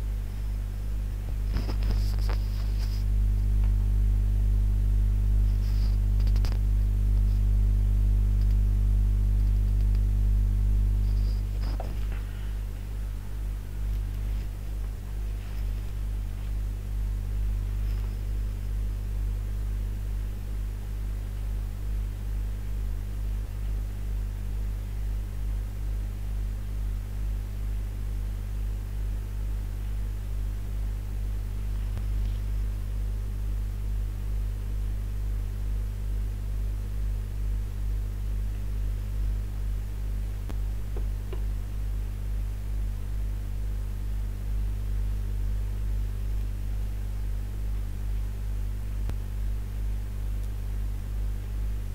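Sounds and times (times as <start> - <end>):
electrical mains hum: 0.0 - 51.9.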